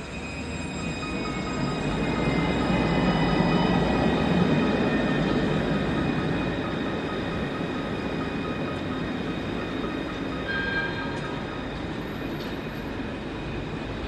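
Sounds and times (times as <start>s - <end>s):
tram wheels rumbling on rail: 0.0s - 14.0s.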